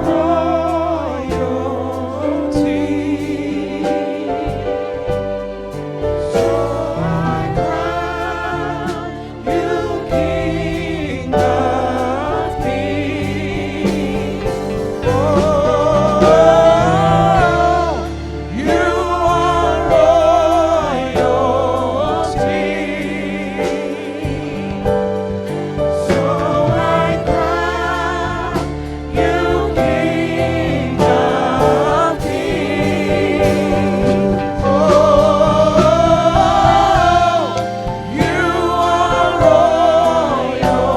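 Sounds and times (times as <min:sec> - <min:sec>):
band with steady drum beat: 0:00.0 - 0:40.9
people singing with vibrato: 0:00.0 - 0:40.9.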